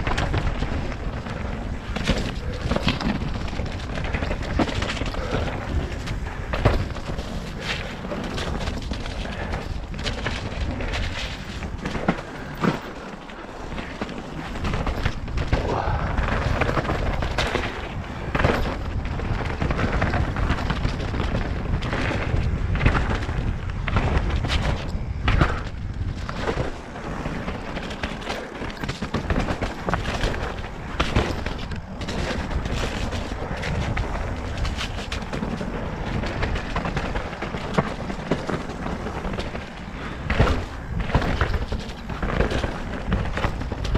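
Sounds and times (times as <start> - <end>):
bike knocking and rattling: 0.0 - 43.9
wind and tyre rush: 0.0 - 43.9.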